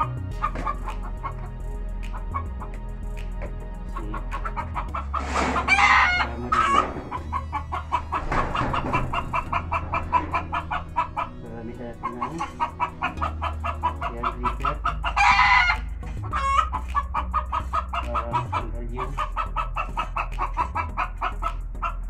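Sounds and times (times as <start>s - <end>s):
chicken squawking: 0.0s - 1.5s, 4.0s - 22.0s
chickens clucking: 0.0s - 22.0s.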